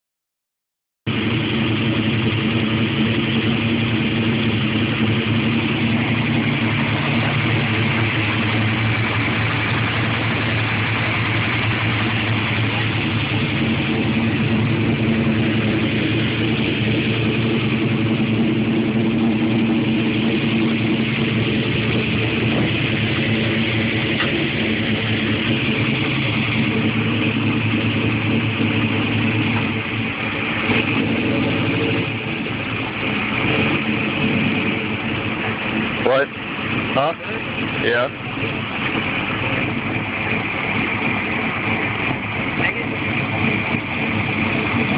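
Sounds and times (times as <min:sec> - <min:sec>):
car engine idling: 0:01.1 - 0:44.9.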